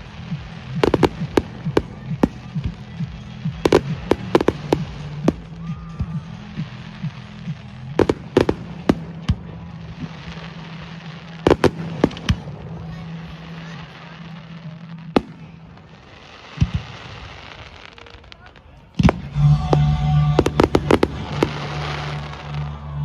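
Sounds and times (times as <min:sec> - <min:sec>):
firework bangs: 0:00.0 - 0:23.0.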